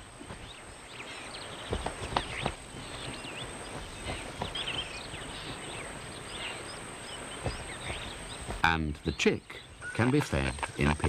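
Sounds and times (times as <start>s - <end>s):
small birds chirping and whistling: 0.3s - 11.0s.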